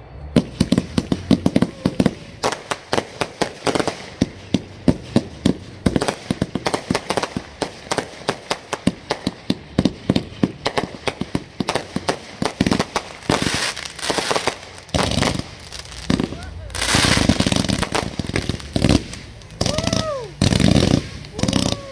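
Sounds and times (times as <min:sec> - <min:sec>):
fireworks banging and crackling: 0:00.2 - 0:21.9.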